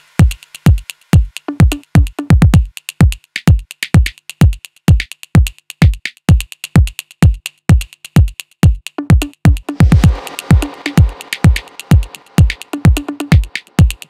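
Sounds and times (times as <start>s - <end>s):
electronic dance music: 0.0s - 8.3s, 9.0s - 14.0s.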